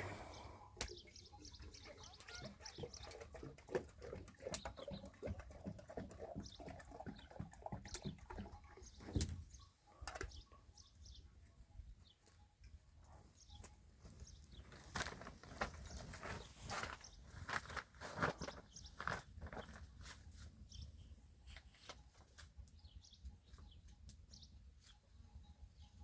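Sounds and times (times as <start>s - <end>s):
small birds chirping: 0.0s - 12.5s, 13.3s - 21.8s, 22.6s - 26.0s.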